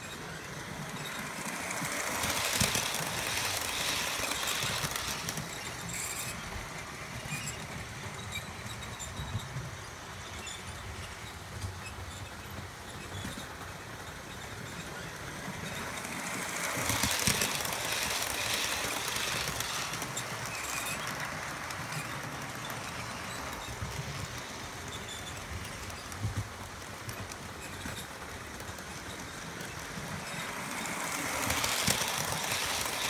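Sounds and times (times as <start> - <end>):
model train whirring and clattering: 0.0 - 33.0.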